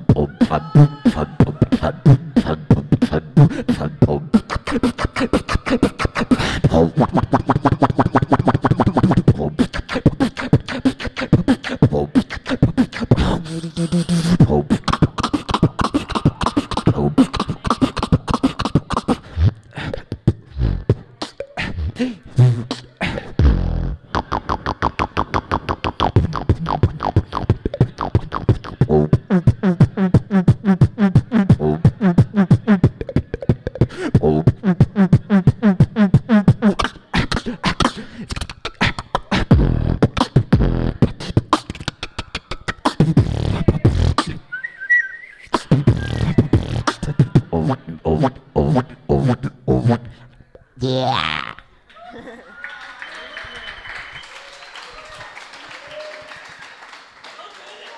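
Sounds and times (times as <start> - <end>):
beatboxing into a microphone: 0.0 - 51.7.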